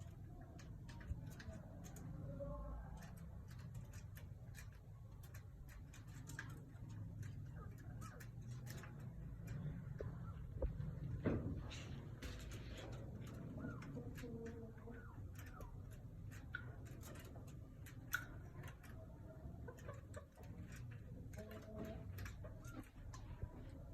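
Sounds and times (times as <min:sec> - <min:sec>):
faint clicks and taps: 0:00.0 - 0:23.9.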